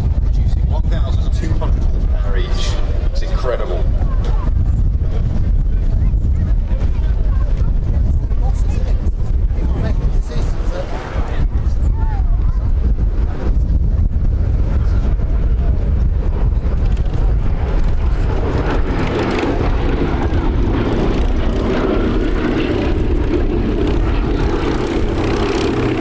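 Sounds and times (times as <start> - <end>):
aircraft engines droning: 0.0 - 26.0
wind rumble on microphone: 0.0 - 26.0.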